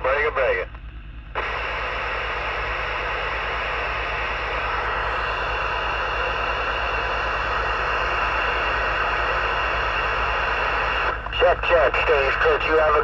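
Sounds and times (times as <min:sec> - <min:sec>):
radio static hiss: 0:00.0 - 0:00.7, 0:01.3 - 0:13.0.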